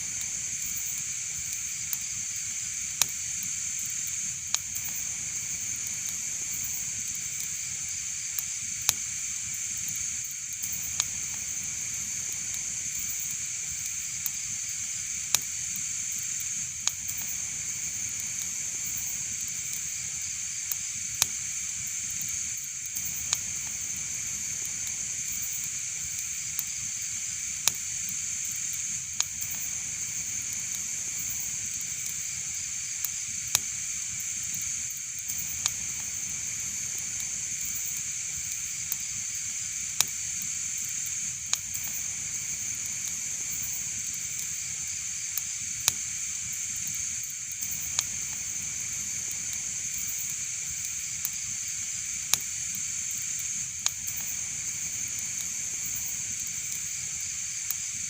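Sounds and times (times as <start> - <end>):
wood fire crackling hiss: 0.0 - 58.0
sharp fire pops: 0.2 - 7.6, 10.6 - 32.4, 33.0 - 57.9.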